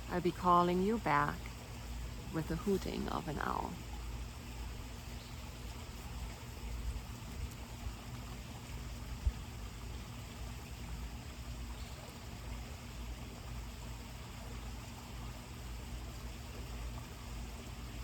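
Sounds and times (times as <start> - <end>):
low uneven rumble: 0.0 - 18.0.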